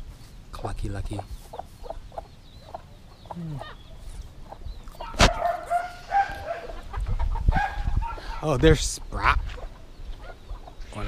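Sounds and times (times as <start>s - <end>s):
hen clucking: 0.6s - 11.0s.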